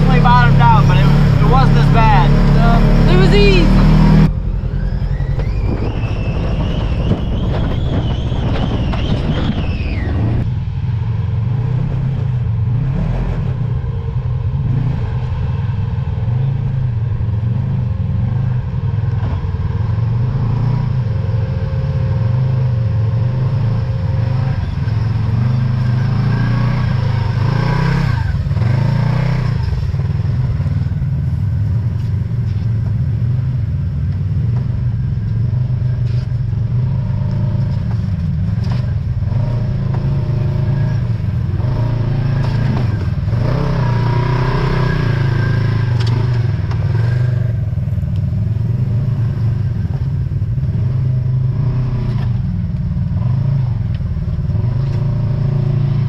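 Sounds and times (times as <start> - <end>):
utility vehicle engine running: 0.0 - 56.0.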